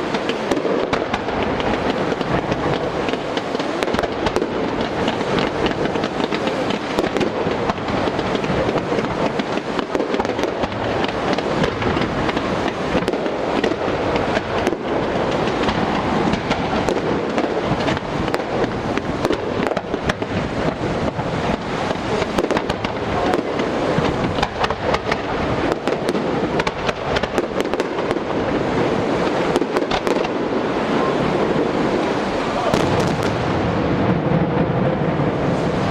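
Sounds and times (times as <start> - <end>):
fireworks crackling and banging: 0.0 - 35.9.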